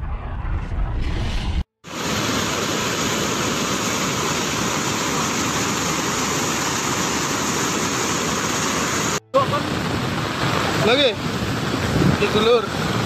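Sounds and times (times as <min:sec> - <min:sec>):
floodwater rushing: 0:01.9 - 0:13.0.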